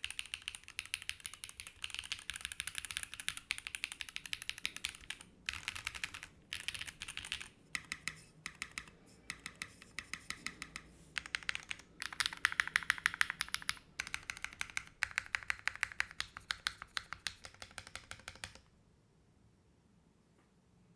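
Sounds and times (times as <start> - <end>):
mechanical keyboard typing: 0.0 - 18.7.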